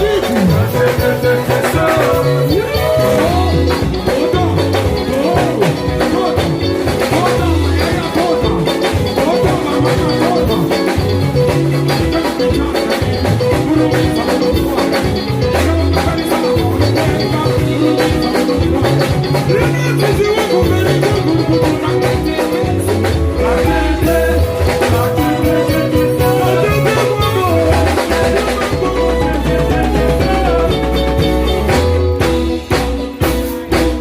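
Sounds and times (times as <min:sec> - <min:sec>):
drum and percussion beat: 0:00.0 - 0:34.0
guitar lines: 0:00.0 - 0:34.0
held bass guitar notes: 0:00.0 - 0:34.0.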